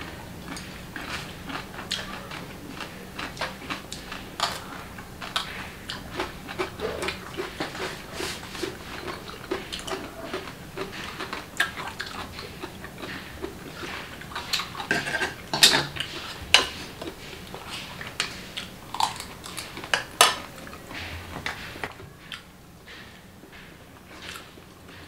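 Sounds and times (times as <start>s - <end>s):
chopsticks and spoons clinking on bowls: 0.5s - 22.4s.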